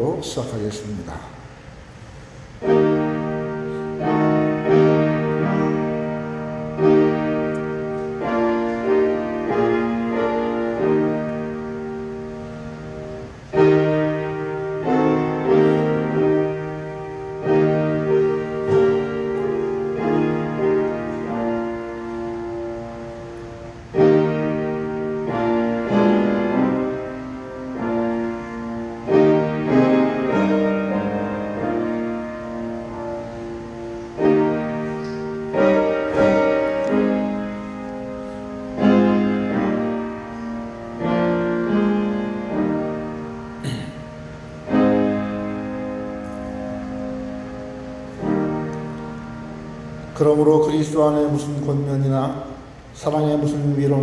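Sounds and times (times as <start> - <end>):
piano playing slow chords: 0.0 - 54.0.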